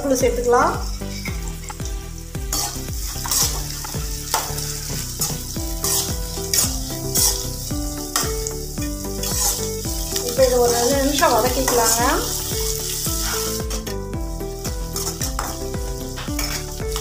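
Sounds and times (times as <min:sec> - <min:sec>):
onions sizzling in hot oil: 0:00.0 - 0:17.0
spatula scraping pan: 0:00.9 - 0:17.0.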